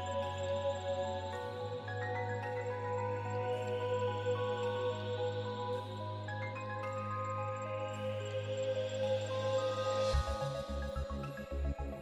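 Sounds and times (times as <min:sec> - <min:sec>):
calm ambient music: 0:00.0 - 0:12.0.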